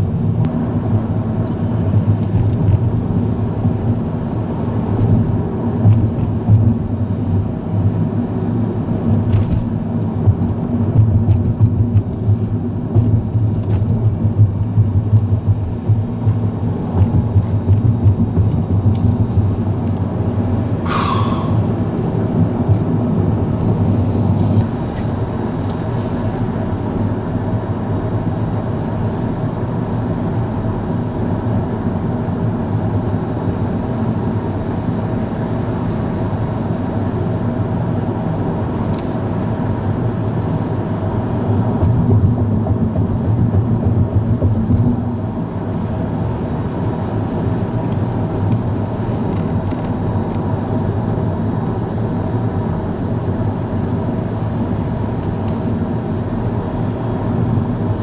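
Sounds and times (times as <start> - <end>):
car cabin road noise: 0.0 - 58.0.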